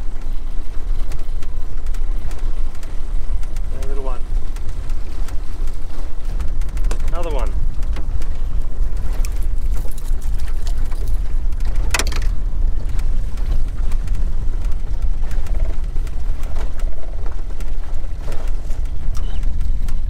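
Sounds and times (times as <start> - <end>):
outboard motor running: 0.0 - 20.0
wind on microphone: 0.0 - 20.0.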